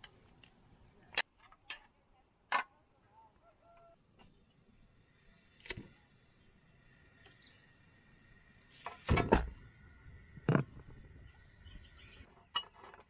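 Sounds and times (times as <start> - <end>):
faint steady background noise: 0.0 - 13.0.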